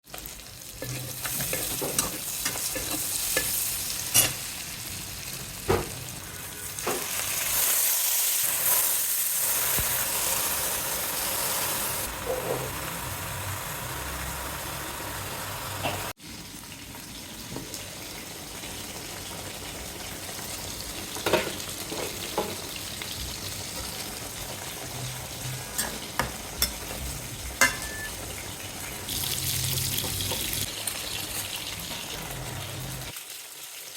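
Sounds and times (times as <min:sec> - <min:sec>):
food sizzling in hot oil: 0:00.0 - 0:33.9.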